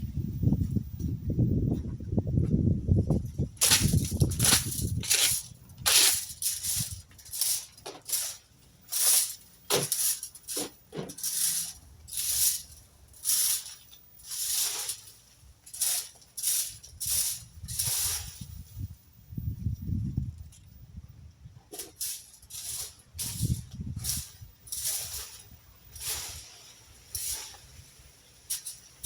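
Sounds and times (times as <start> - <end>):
rake scraping through debris: 3.1 - 20.7, 21.7 - 29.0.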